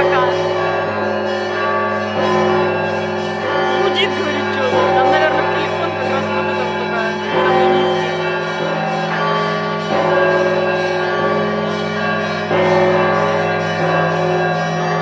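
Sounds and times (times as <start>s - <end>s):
deep hum of large bell: 0.0s - 15.0s
small bells ringing: 0.0s - 15.0s.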